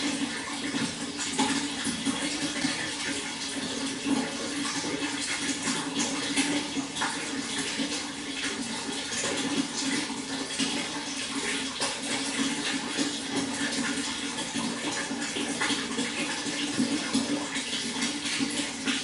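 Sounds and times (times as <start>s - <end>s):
water flowing: 0.0s - 19.0s.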